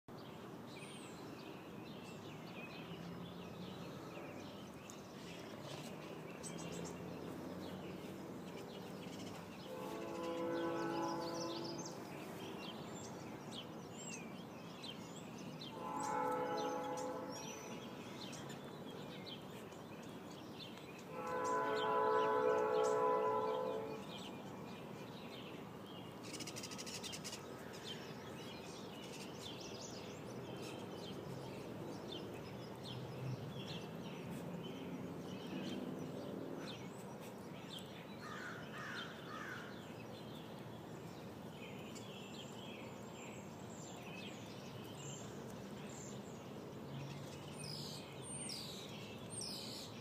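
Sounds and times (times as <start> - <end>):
small birds chirping: 0.1 - 50.0.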